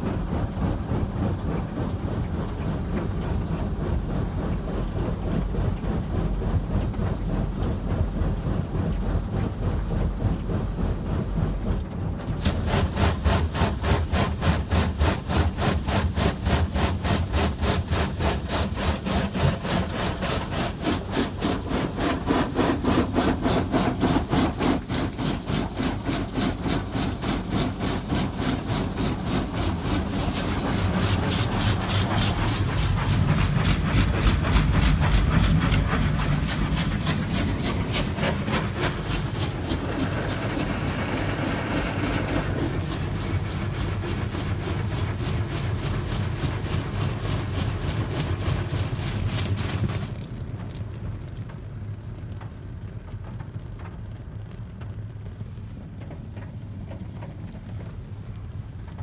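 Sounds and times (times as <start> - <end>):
car wash pulsing rasp: 0.0 - 50.5.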